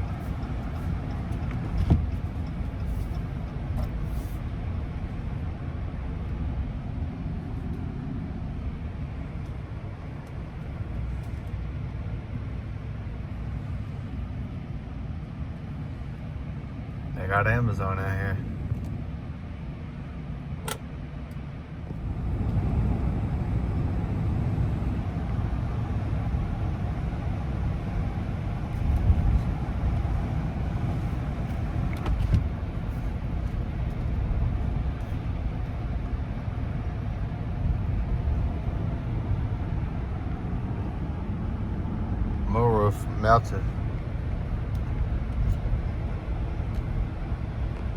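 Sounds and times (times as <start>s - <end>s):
truck engine and road rumble: 0.0s - 47.9s.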